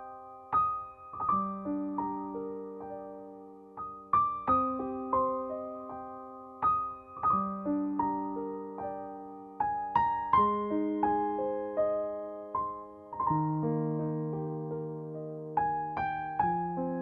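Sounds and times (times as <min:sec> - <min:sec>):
gentle solo piano music: 0:00.0 - 0:17.0.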